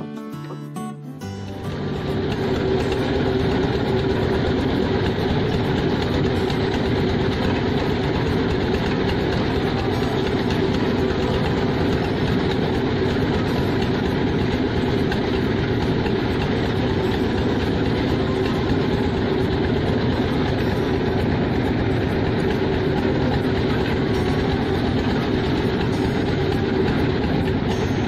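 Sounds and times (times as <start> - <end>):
boat engine droning: 1.2 - 28.0.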